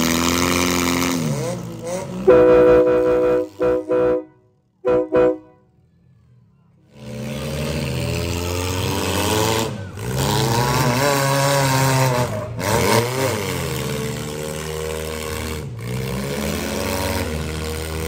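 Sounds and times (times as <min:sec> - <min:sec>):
car engines revving: 0:00.0 - 0:05.7, 0:06.8 - 0:18.0.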